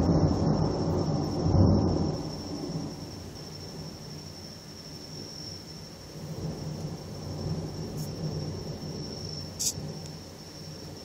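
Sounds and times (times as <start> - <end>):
distant thunder rumbling: 0.0 - 4.3, 5.1 - 11.0.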